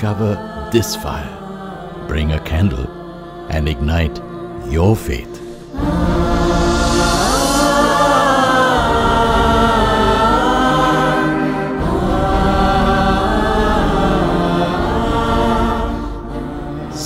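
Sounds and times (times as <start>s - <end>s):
low drone: 0.0s - 17.0s
voices chanting long notes: 0.0s - 17.0s.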